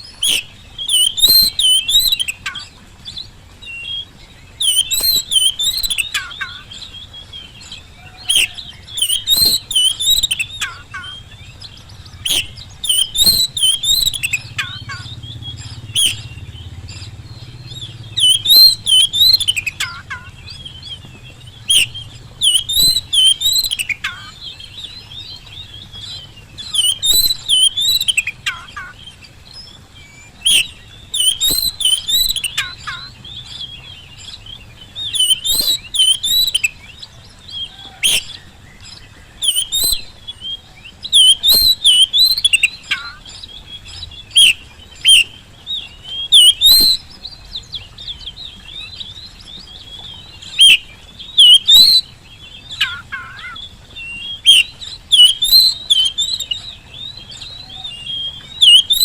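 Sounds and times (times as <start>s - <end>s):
bird singing warbling phrases: 0.0s - 59.0s.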